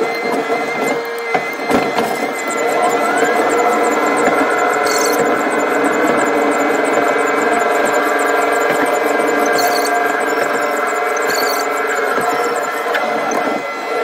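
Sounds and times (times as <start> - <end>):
excavator mechanical hum with whine: 0.0 - 14.0.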